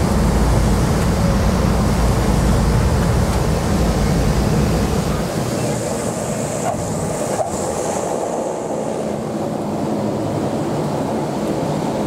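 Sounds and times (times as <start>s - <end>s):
turboprop cabin drone: 0.0s - 12.0s.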